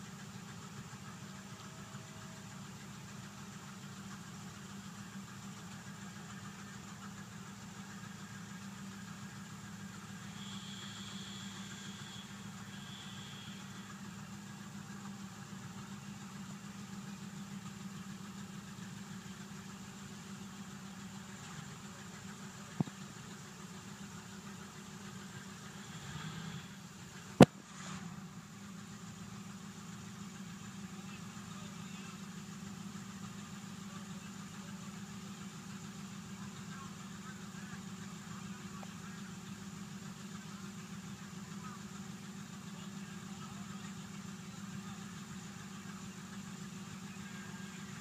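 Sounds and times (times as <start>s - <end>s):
pickup truck engine idling: 0.0s - 48.0s.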